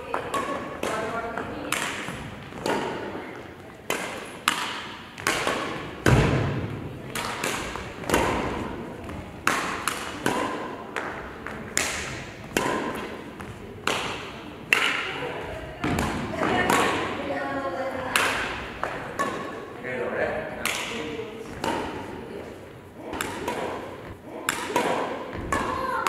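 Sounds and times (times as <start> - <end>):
rackets hitting shuttlecock: 0.0 - 17.4, 18.0 - 19.8, 20.4 - 26.0.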